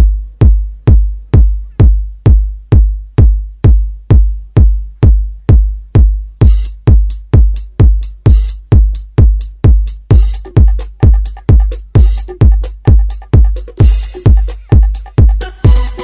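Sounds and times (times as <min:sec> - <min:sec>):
electronic music kick drum beat: 0:00.0 - 0:16.0
hi-hat hiss: 0:00.0 - 0:16.0.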